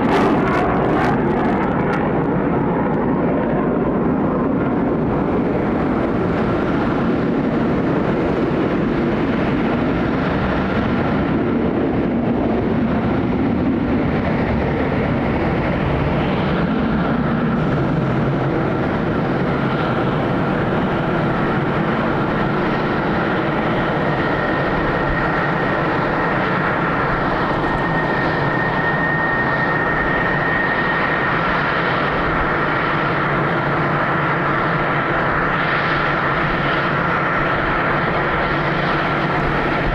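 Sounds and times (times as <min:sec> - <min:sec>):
jet engines rushing and whining: 0:00.0 - 0:39.9.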